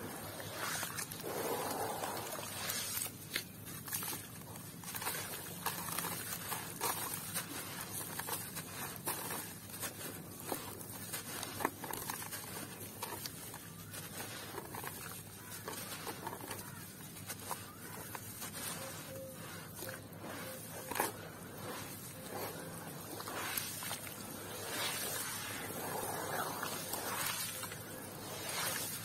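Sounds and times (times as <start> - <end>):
wet mud squishing: 0.0 - 29.0
dirt crunching: 0.1 - 29.0.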